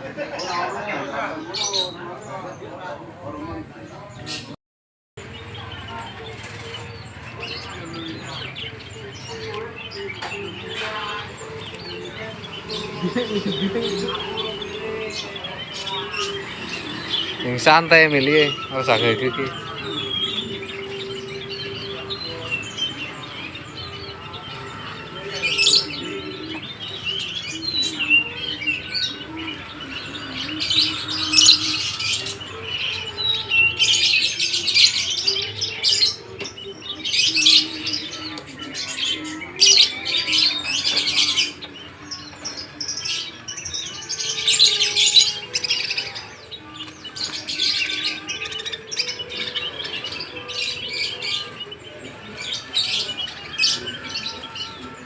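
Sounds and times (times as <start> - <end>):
caged songbirds chirping: 0.0 - 4.6, 5.2 - 55.0.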